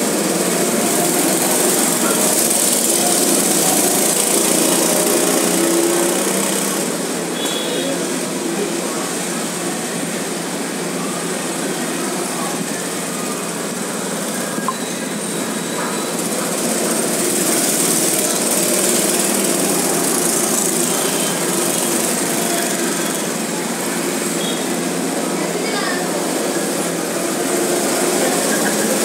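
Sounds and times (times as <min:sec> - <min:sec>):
go-kart engines running: 0:00.0 - 0:29.0
go-kart passing by: 0:00.0 - 0:29.0.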